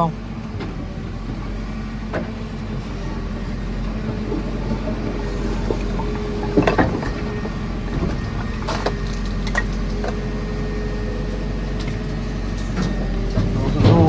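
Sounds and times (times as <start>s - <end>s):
diesel engine running with whine: 0.0s - 14.0s.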